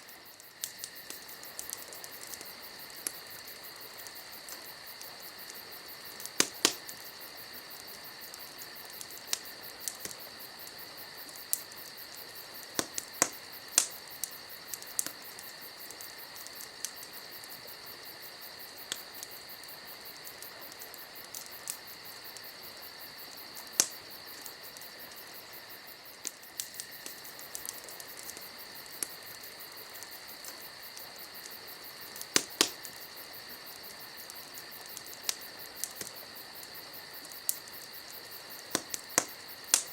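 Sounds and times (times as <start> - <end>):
campfire crackling and popping: 0.0 - 39.9
night insects chorus: 0.0 - 39.9.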